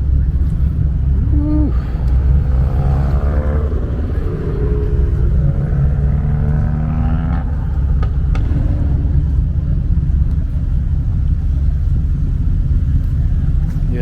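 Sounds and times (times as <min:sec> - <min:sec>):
car engine exhaust rumbling: 0:00.0 - 0:14.0.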